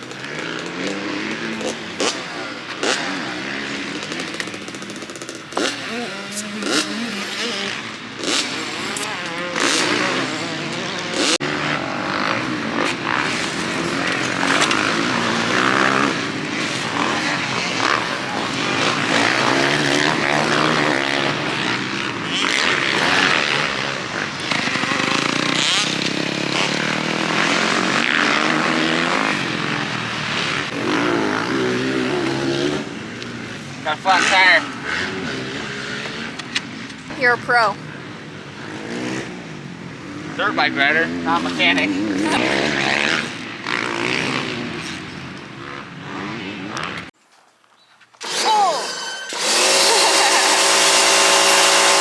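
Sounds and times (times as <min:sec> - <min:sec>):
dirt bike engines revving: 0:00.0 - 0:47.2, 0:48.2 - 0:52.0.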